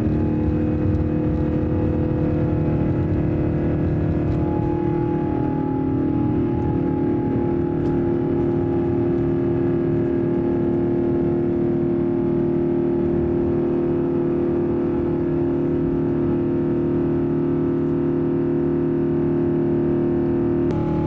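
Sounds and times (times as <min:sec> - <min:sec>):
jet engines droning: 0:00.0 - 0:18.2, 0:20.4 - 0:21.0.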